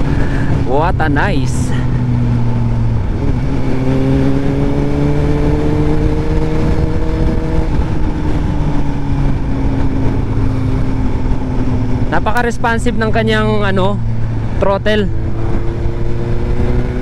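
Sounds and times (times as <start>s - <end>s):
motorcycle engine accelerating: 0.0s - 17.0s
wind rushing: 0.0s - 17.0s.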